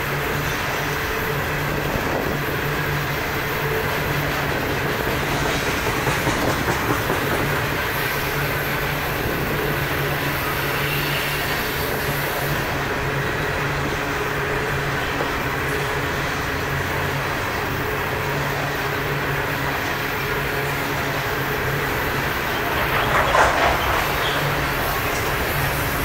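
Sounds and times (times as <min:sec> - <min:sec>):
train cars rattling: 0:00.0 - 0:26.0
train wheels rumbling on rail: 0:00.0 - 0:26.0.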